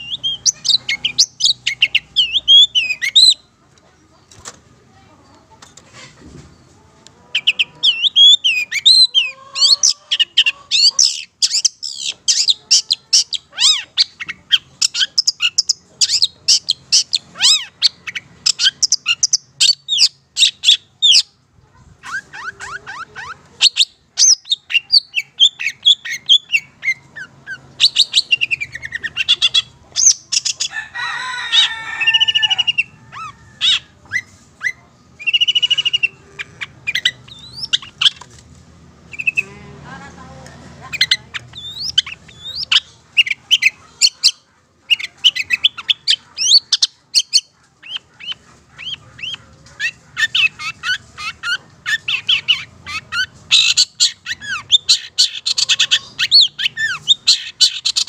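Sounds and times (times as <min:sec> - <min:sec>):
harsh bird chattering: 0:00.0 - 0:03.5, 0:07.3 - 0:38.4, 0:39.0 - 0:39.6, 0:40.7 - 0:58.0.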